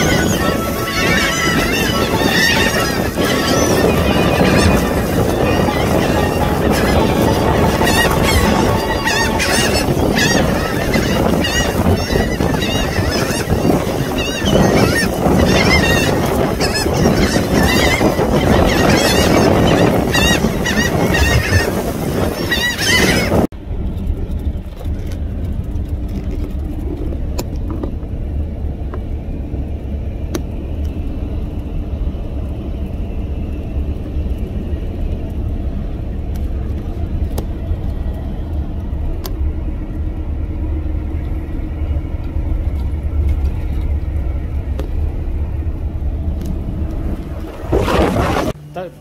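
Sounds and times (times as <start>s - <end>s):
vehicle rumbling: 0.0s - 49.0s.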